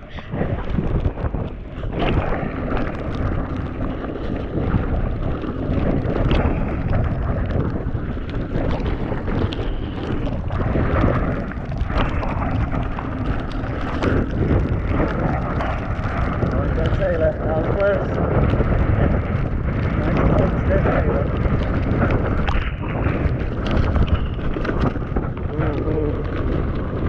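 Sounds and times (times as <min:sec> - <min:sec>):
bike knocks and rattles: 0:00.0 - 0:27.0
tyres on wet ground: 0:00.0 - 0:27.0
wind rushing over microphone: 0:00.0 - 0:27.0.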